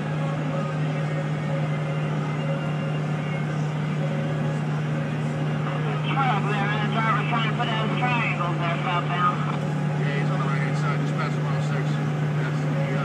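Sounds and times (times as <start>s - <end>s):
car road and engine noise: 0.0s - 13.0s
low hum: 0.0s - 13.0s.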